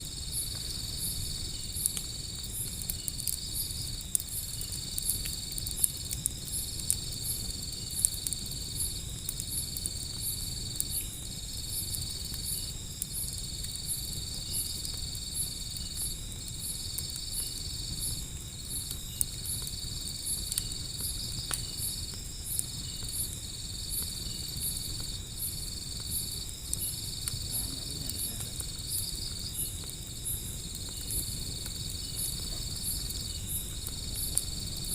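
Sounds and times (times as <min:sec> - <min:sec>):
crickets chirping: 0:00.0 - 0:34.9
night insects trilling: 0:00.0 - 0:34.9
wood fire crackling and popping: 0:00.0 - 0:34.9.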